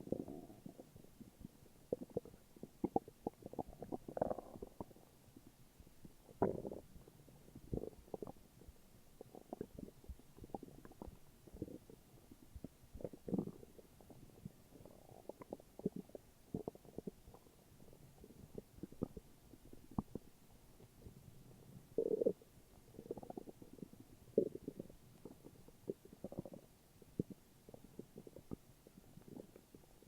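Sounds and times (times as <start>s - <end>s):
stomach growling and gurgling: 0.0s - 30.0s.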